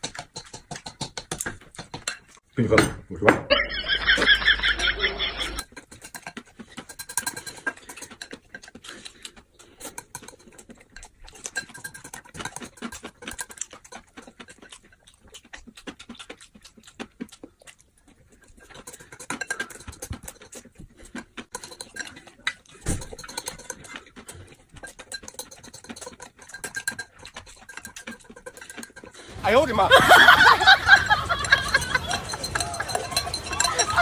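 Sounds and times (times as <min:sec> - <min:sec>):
person chewing: 0:00.0 - 0:02.5, 0:04.0 - 0:34.0.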